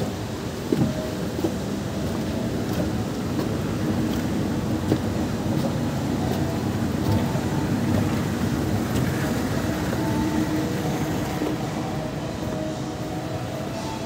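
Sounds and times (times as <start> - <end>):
footsteps in echoing hall: 0.0 - 14.0
murmur of distant voices: 0.0 - 14.0.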